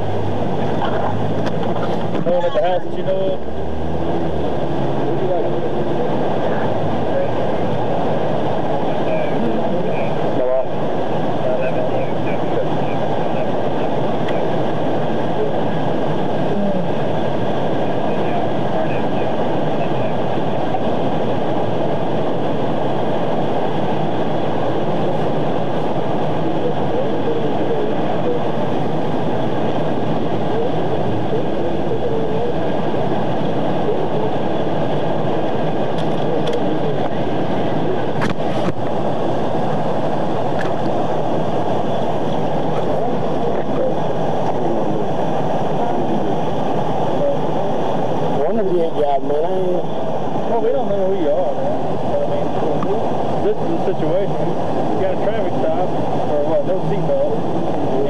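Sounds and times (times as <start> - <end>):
steady rumbling noise: 0.0 - 58.0.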